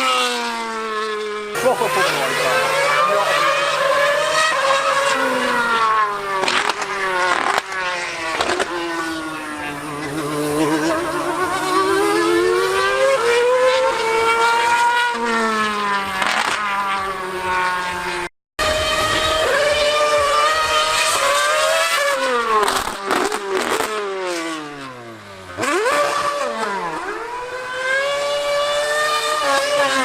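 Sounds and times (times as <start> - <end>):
racing car engine at high revs: 0.0 - 30.0.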